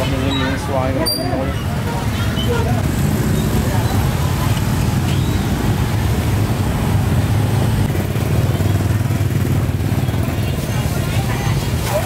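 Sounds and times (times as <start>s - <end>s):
motorbike engines droning: 0.0s - 12.0s
street traffic: 0.0s - 12.0s.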